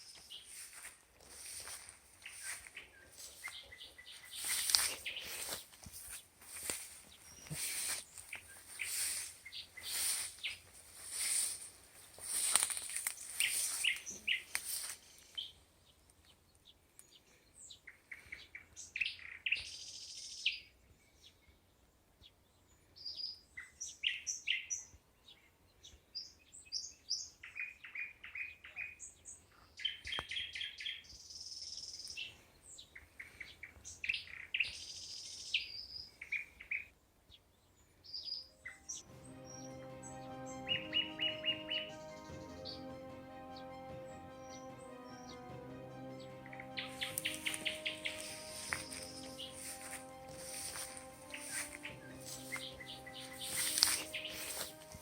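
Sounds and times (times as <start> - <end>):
small birds chirping: 0.0 - 39.7, 46.5 - 55.0.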